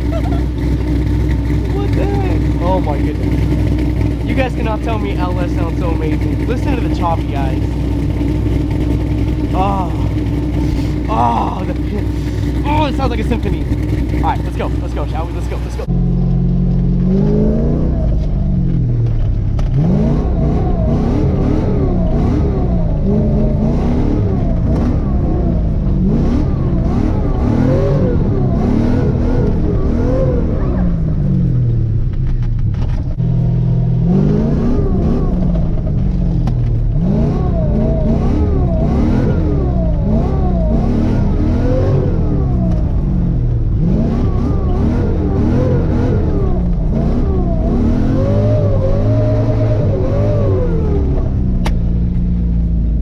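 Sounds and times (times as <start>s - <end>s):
car engine revving hard: 0.0s - 31.8s, 32.8s - 52.7s.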